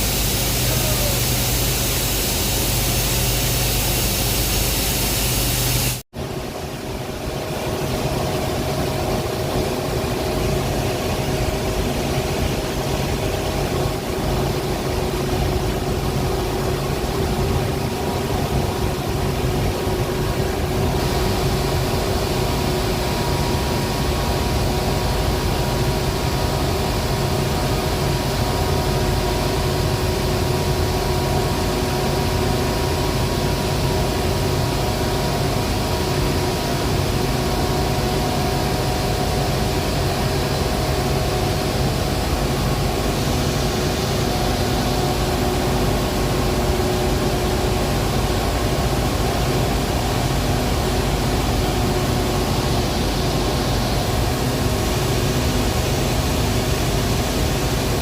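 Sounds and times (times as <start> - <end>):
industrial machinery hiss and hum: 0.0 - 58.0.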